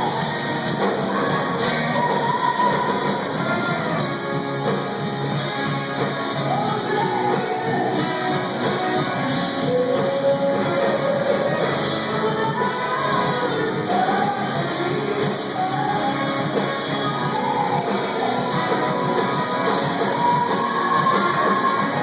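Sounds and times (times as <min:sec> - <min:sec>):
live rock band: 0:00.0 - 0:22.0
person singing: 0:00.0 - 0:22.0.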